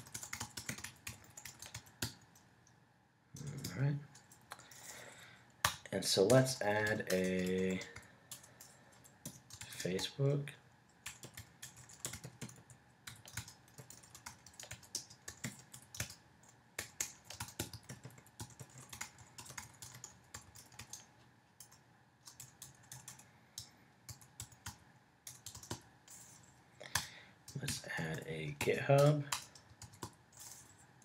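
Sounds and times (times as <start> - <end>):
typing on a keyboard: 0.0 - 2.4, 3.4 - 4.9, 5.6 - 10.1, 11.0 - 31.0.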